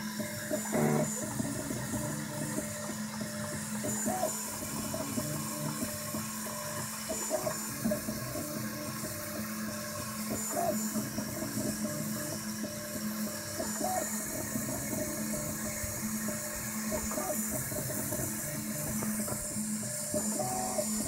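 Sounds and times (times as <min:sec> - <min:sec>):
cooling fans whirring: 0:00.0 - 0:21.0
stepper motors whining: 0:00.0 - 0:21.0.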